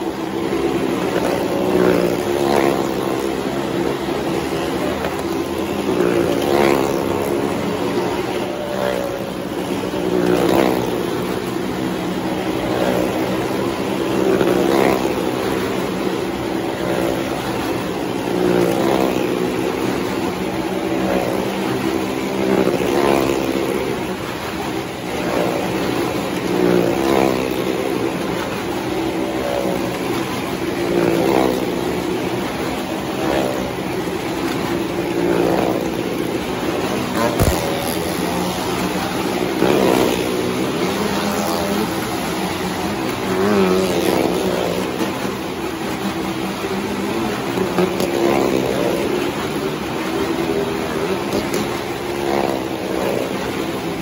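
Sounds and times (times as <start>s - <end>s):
engines droning past: 0.0s - 54.0s.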